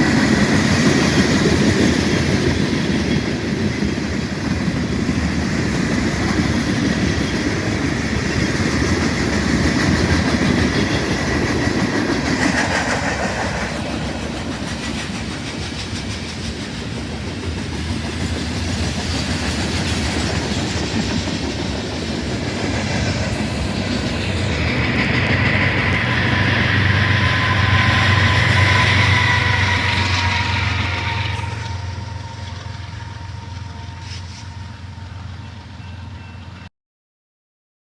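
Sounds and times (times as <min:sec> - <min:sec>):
train wheels clicking over rail joints: 0:00.0 - 0:35.7
freight train rumble: 0:00.0 - 0:36.7.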